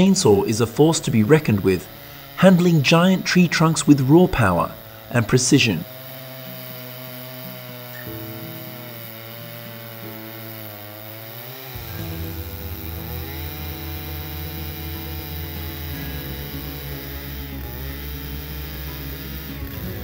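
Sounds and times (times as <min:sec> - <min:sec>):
chainsaw cutting log: 0:00.0 - 0:20.0.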